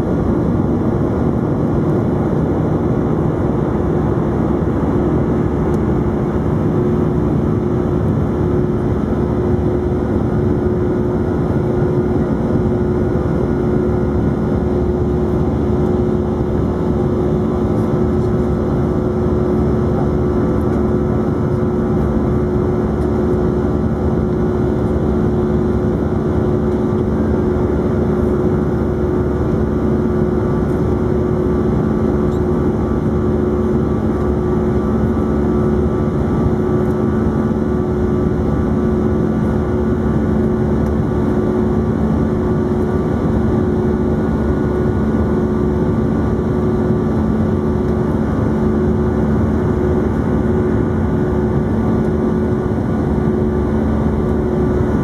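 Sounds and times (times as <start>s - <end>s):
low humming tones: 0.0s - 55.0s.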